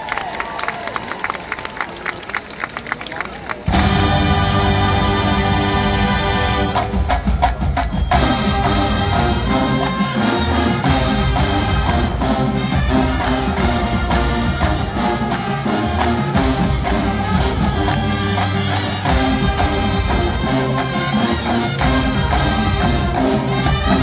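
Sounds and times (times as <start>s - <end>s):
marching band playing: 3.6s - 24.0s.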